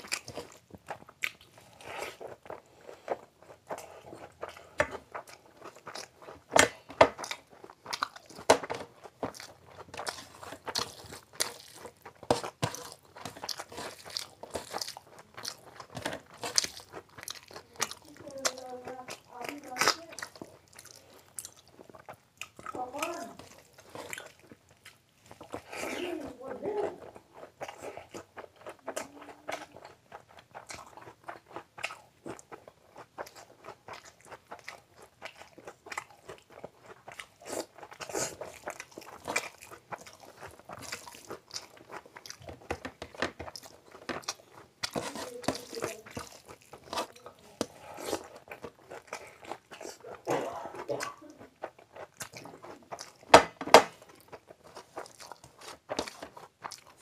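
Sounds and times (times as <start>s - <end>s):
man chewing food: 0.0s - 57.0s.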